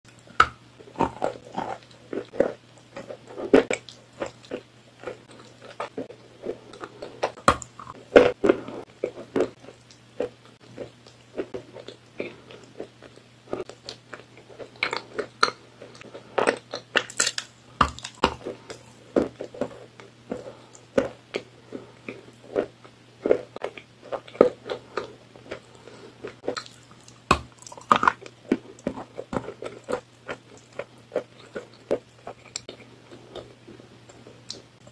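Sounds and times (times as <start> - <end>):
crunching and chewing: 0.1 - 34.9
low steady hum: 0.1 - 34.9.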